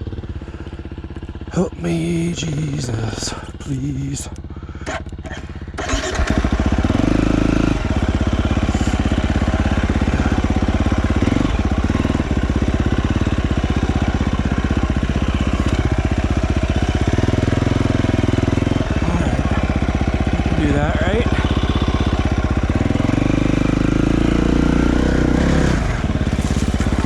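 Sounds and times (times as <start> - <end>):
dirt bike engine revving: 4.6 - 27.0.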